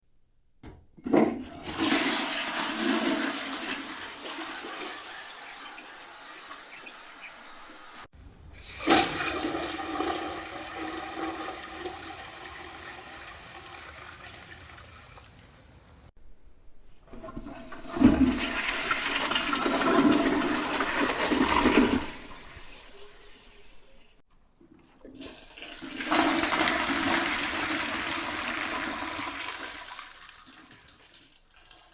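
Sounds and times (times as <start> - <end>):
toilet flushing: 0.6 - 15.8, 16.8 - 31.9.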